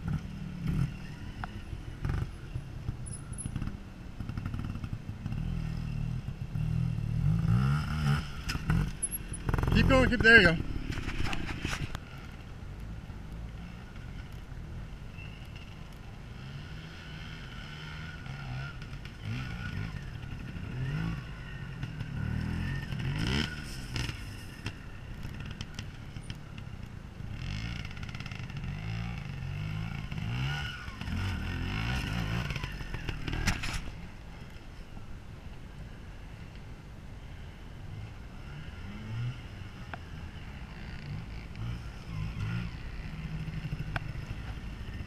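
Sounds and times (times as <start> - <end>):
motorcycle engine revving: 0.0 - 12.4, 15.6 - 26.4, 27.3 - 34.0, 37.9 - 45.0.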